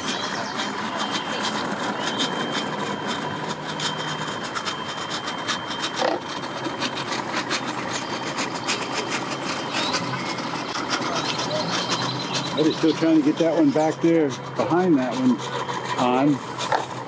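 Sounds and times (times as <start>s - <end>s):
other boat motors: 0.0s - 17.0s
outboard motor droning: 0.0s - 17.0s.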